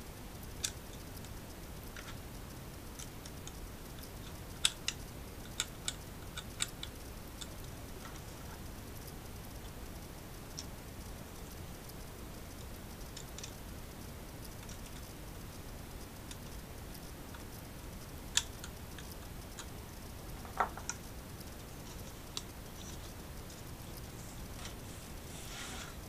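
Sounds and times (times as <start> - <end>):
steady faint hiss: 0.0 - 26.0.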